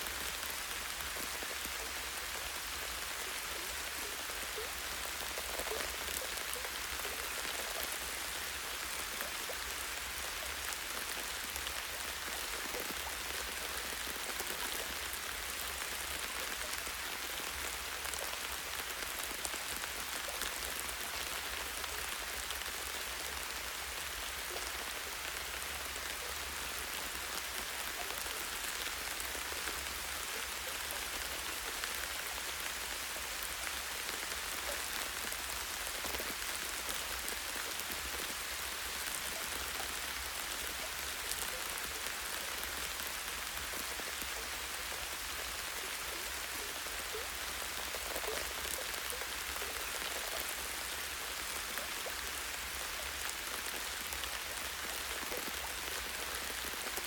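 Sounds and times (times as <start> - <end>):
light rain on tree branch: 0.0 - 57.0.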